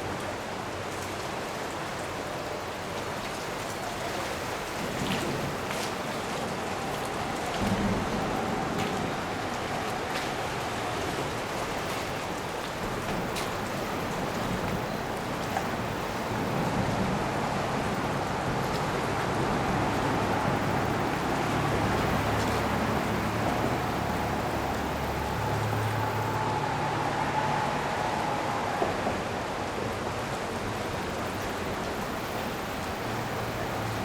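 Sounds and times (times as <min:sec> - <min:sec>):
rushing river water: 0:00.0 - 0:34.0.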